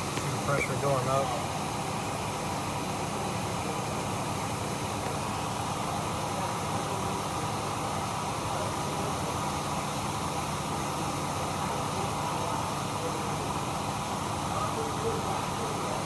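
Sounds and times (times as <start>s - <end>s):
air conditioning blower hiss: 0.0s - 16.0s.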